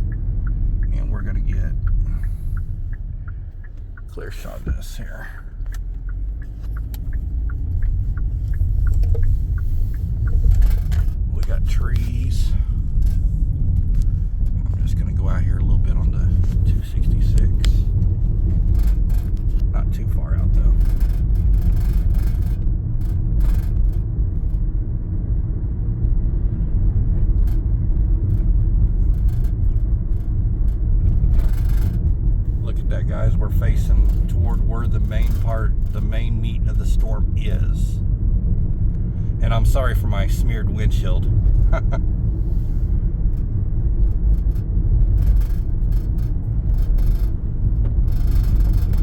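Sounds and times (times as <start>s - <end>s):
road and engine rumble: 0.0s - 49.0s.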